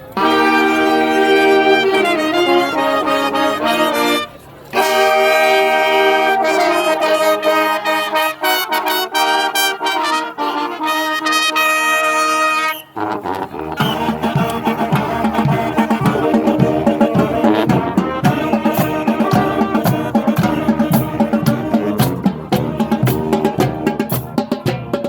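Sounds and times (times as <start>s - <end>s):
brass band sustained chords: 0.0s - 25.0s.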